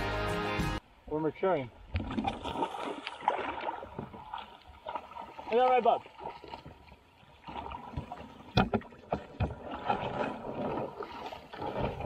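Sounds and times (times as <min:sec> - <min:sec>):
feet splashing in shallow water: 0:01.8 - 0:12.0
kayak hull scraping over stones: 0:02.2 - 0:12.0.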